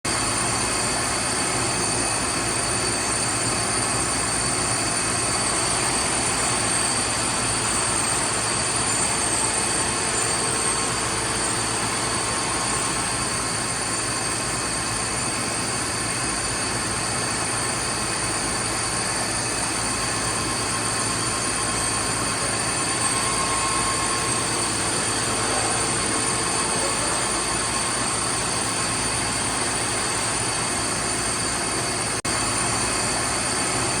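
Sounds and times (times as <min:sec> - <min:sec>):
boring mill humming and whining: 0:00.1 - 0:34.0.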